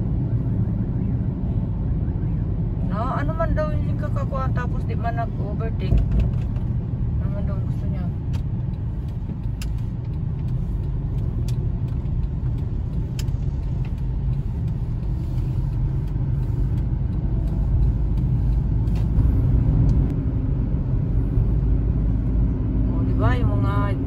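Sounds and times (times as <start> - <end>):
car cabin road and engine rumble: 0.0 - 24.0.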